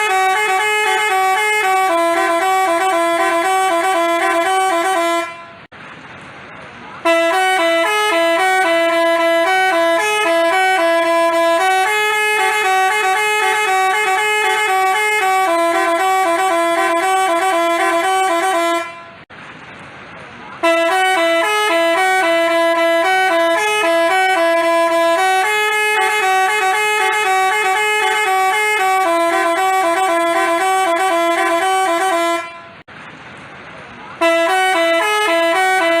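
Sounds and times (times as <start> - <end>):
multi-tone bus horn tune: 0.0 - 5.7, 7.0 - 19.3, 20.6 - 32.9, 34.2 - 36.0.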